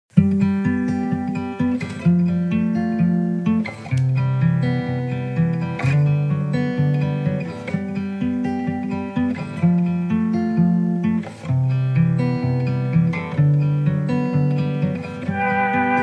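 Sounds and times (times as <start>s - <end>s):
plucked guitar music: 0.1s - 16.0s.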